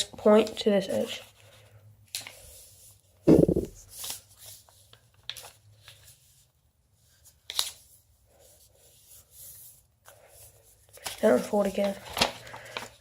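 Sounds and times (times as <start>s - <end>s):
paper folding and crinkling: 0.0s - 13.0s.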